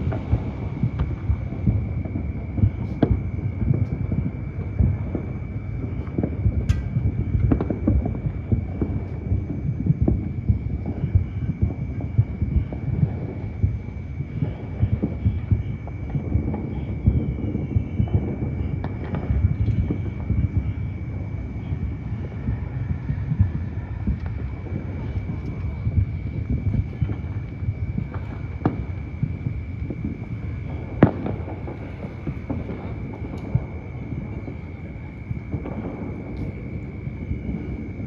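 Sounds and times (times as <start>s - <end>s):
fireworks booming: 0.0s - 38.0s.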